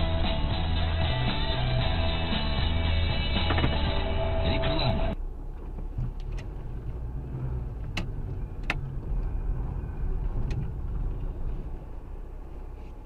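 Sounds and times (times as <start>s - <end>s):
engine and road noise in car: 0.0s - 13.0s.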